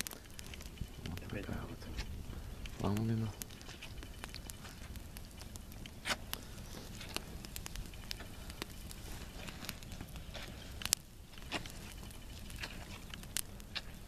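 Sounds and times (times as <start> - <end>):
campfire crackling: 0.0 - 14.0
sharp fire pops: 0.0 - 14.0.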